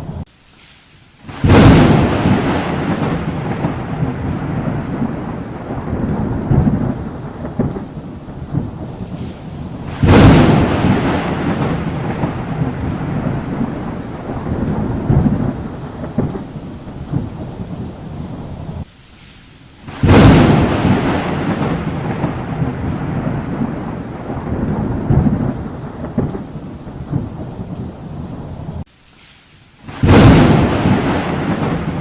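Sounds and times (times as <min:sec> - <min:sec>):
steady rain: 0:00.0 - 0:32.0
loud thunderclap: 0:01.3 - 0:18.9, 0:19.9 - 0:28.8, 0:29.9 - 0:32.0
rolling thunder: 0:01.3 - 0:18.9, 0:19.9 - 0:28.8, 0:29.9 - 0:32.0.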